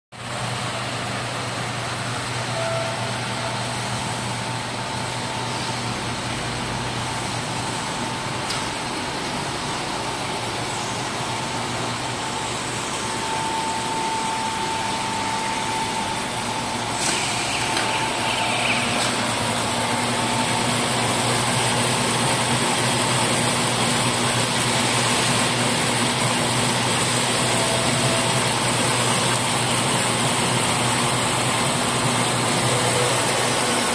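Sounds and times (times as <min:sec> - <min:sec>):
baler machine humming: 0:00.2 - 0:33.9.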